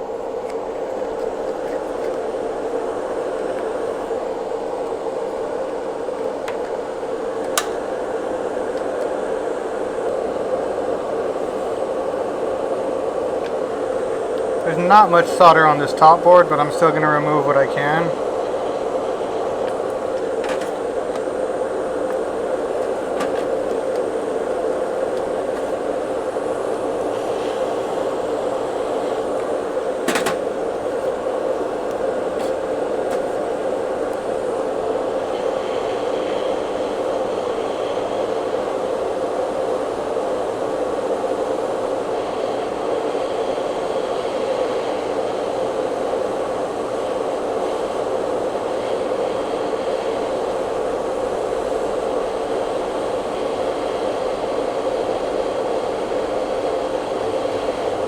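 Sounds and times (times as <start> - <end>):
extractor fan running: 0.0 - 58.0.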